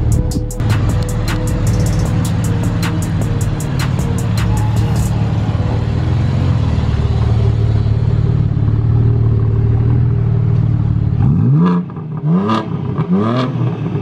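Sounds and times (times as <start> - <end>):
car engine idling: 0.0 - 12.2
engine revving: 0.0 - 14.0.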